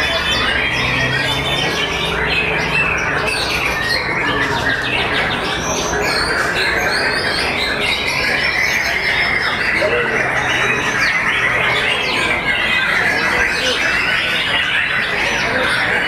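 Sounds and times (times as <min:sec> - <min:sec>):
other birds singing: 0:00.0 - 0:16.0.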